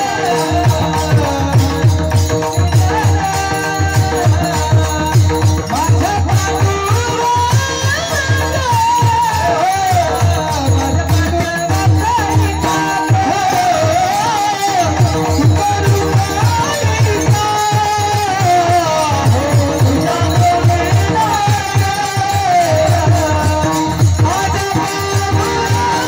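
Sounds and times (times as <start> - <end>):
fast drum beat: 0.0 - 26.0.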